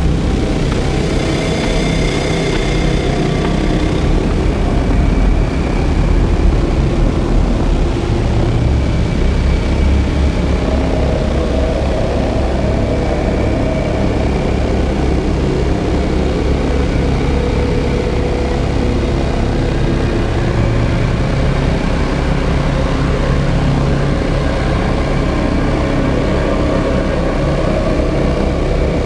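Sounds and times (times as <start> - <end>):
bass-heavy drone rumble: 0.0 - 29.0.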